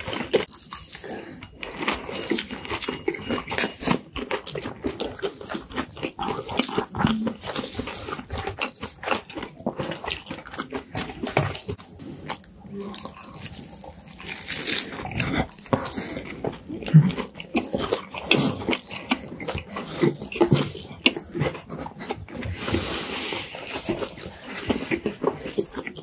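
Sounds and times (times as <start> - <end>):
chewing crispy fried chicken: 0.0 - 26.0.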